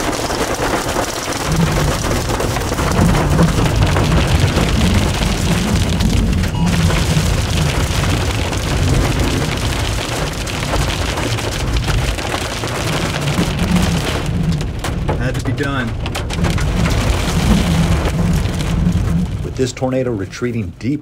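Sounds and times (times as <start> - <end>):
heavy rain on vehicle roof: 0.0 - 21.0
low rumble: 0.5 - 20.8.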